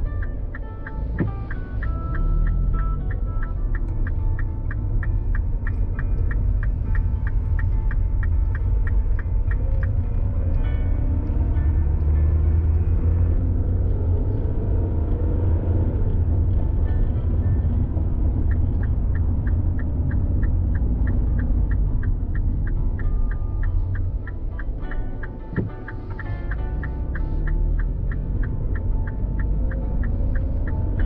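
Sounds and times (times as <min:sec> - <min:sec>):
light rapid ticking: 0:00.0 - 0:31.0
vehicle engine rumble: 0:00.0 - 0:31.0.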